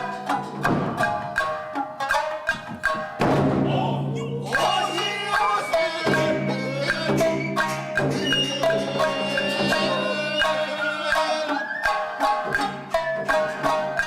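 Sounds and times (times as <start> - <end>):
shamisen plucked notes: 0.0 - 14.0.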